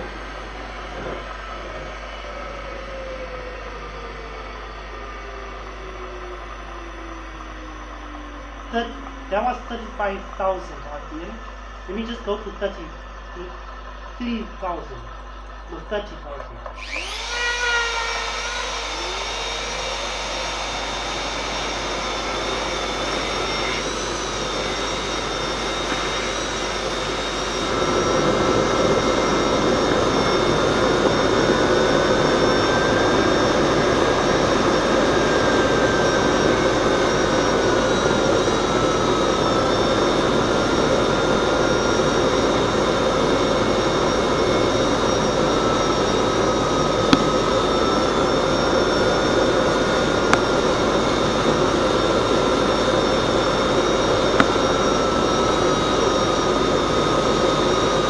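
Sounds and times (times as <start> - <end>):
jet engine running: 0.0 - 58.0.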